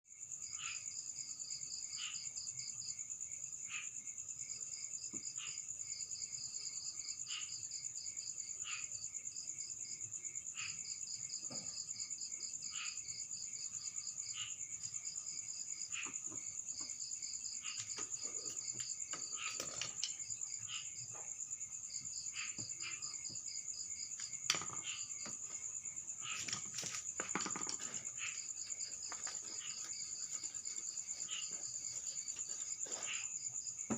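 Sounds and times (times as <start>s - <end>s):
crickets trilling: 0.1s - 33.9s.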